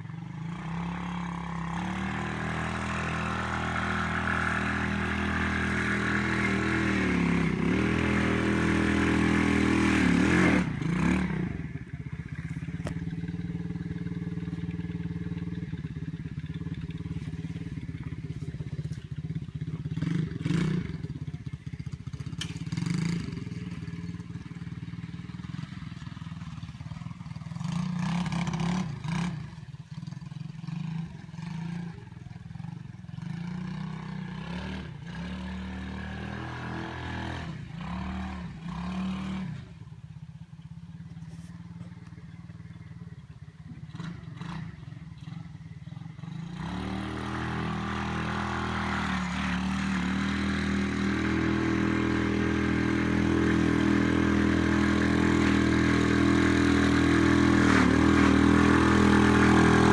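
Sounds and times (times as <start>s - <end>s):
dirt bike engine revving: 0.0s - 39.9s, 43.0s - 59.9s.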